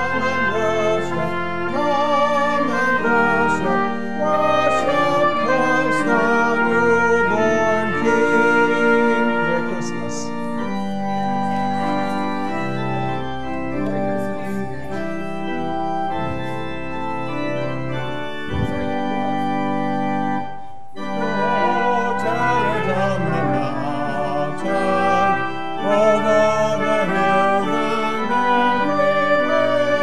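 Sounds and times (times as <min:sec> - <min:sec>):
organ playing held chords: 0:00.0 - 0:30.0.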